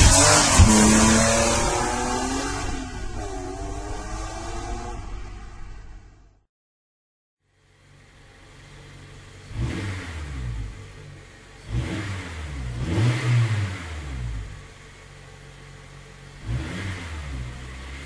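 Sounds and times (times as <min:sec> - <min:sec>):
car engine idling and revving: 0:00.0 - 0:06.4, 0:07.5 - 0:18.0.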